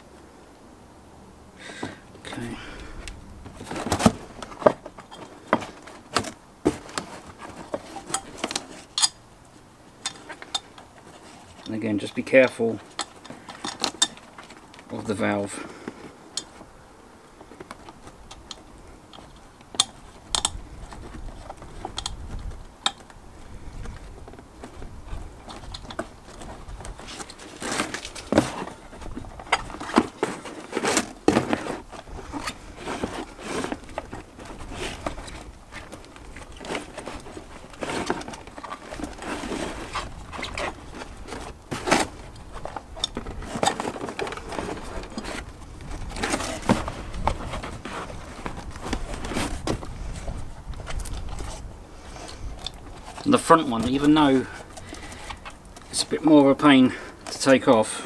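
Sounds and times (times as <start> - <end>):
rubber tyre rustling: 1.6 - 58.0
scrapes and light knocks: 3.4 - 16.7, 17.4 - 58.0.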